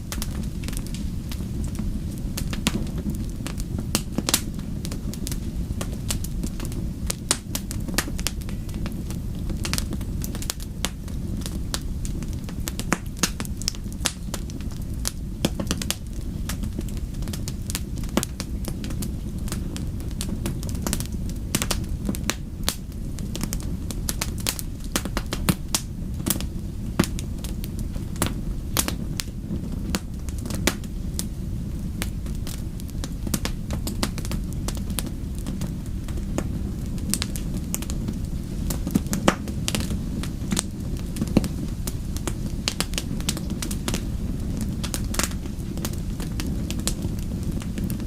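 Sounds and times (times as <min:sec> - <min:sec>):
fire crackling and popping: 0:00.0 - 0:48.0
low rumble of flames: 0:00.0 - 0:48.0.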